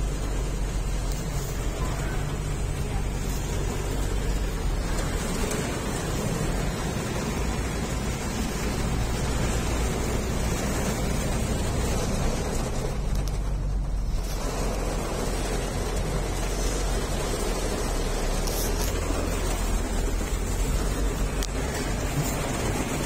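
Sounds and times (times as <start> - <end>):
low road rumble: 0.0 - 23.0
rain and wet tyres hissing: 0.0 - 23.0.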